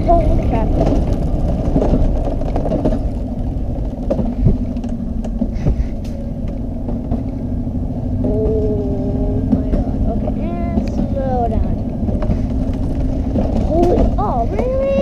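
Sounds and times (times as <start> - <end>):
coaster sled rumble on rail: 0.0 - 15.0.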